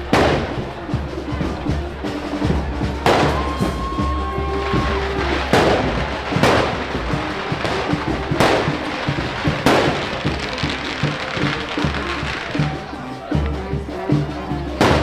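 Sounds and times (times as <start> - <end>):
firework bangs with echo: 0.0 - 13.0, 14.7 - 15.0
music: 0.0 - 15.0.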